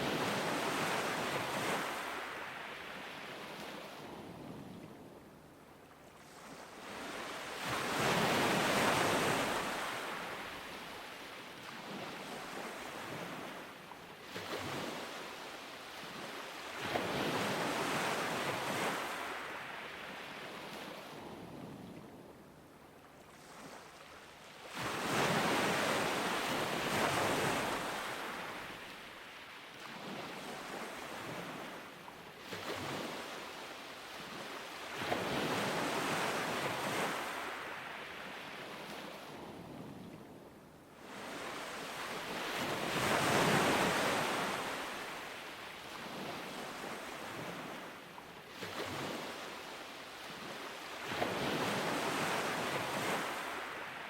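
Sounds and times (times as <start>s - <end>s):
ocean waves breaking on beach: 0.0s - 5.2s, 6.1s - 22.2s, 23.1s - 54.0s.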